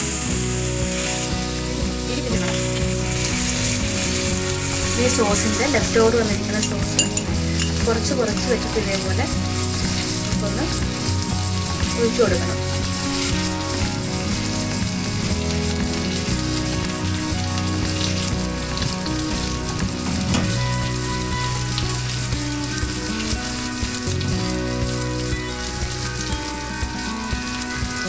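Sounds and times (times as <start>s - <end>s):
fish sizzling in a pan: 0.0s - 28.0s.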